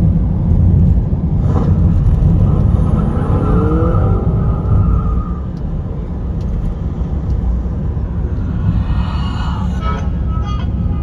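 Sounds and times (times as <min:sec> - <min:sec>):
steady low rumble: 0:00.0 - 0:03.3, 0:04.0 - 0:11.0
vehicle engine: 0:00.0 - 0:11.0.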